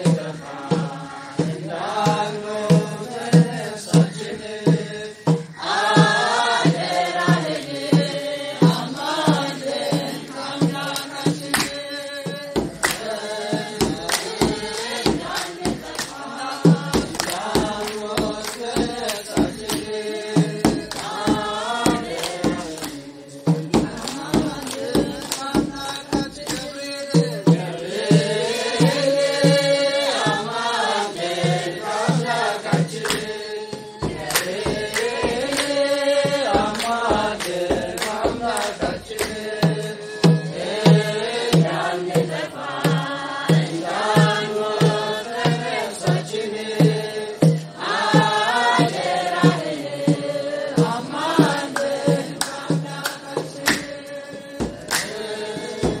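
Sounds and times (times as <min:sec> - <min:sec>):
group singing a hymn: 0:00.0 - 0:56.0
hand drum beating: 0:00.0 - 0:56.0.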